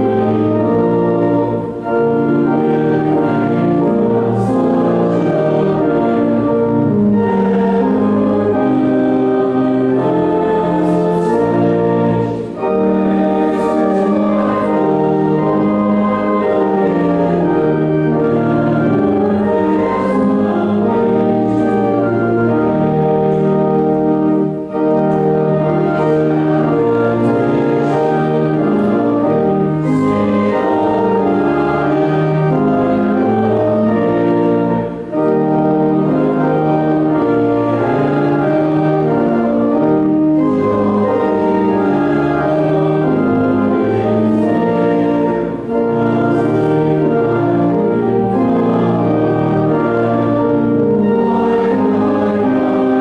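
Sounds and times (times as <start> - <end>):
church organ chords: 0.0 - 53.0.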